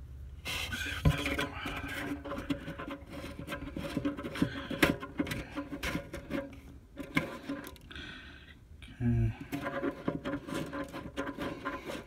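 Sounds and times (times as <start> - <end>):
clicks knocks and rubbing: 0.5 - 7.9, 9.4 - 12.0.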